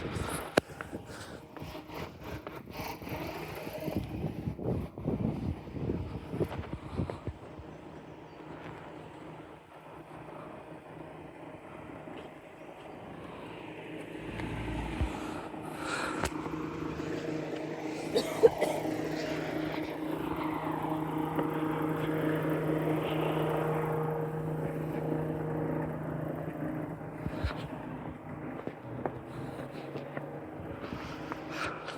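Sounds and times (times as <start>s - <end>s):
vehicle engine humming: 0.0s - 31.9s.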